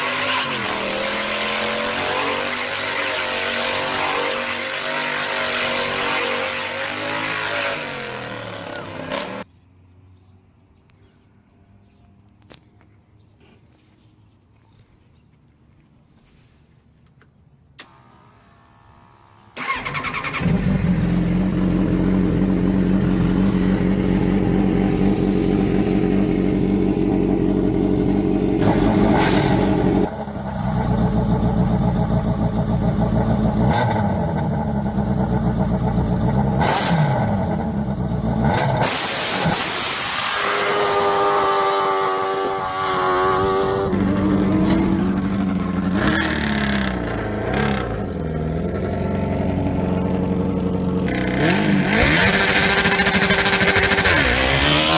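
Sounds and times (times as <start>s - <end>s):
powerful engine revving: 0.0s - 9.5s, 19.6s - 54.9s.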